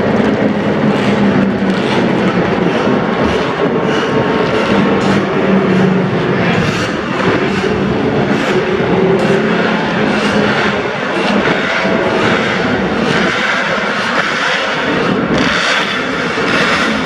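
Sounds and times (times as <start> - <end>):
racing motorcycle engines running: 0.0 - 17.0.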